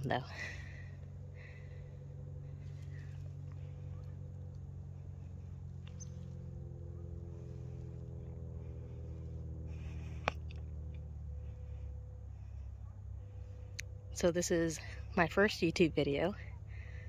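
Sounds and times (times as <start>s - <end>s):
distant motor hum: 0.0s - 17.0s.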